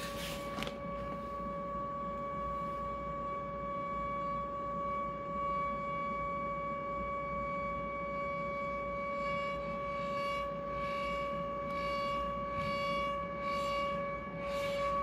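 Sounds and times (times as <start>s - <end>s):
steady electronic drone: 0.0s - 15.0s.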